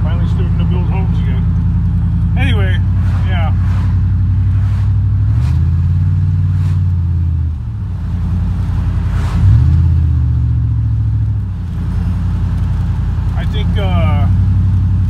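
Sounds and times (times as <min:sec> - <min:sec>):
road noise: 0:00.0 - 0:15.0
vehicle engine: 0:00.0 - 0:15.0.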